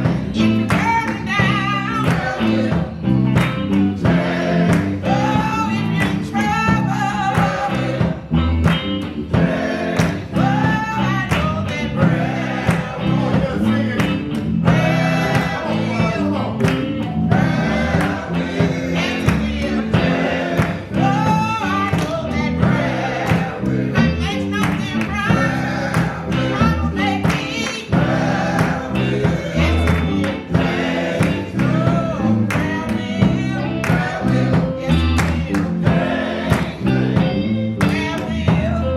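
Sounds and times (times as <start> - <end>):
gospel singing: 0.0 - 38.9
instrumental accompaniment with beat: 0.0 - 38.9.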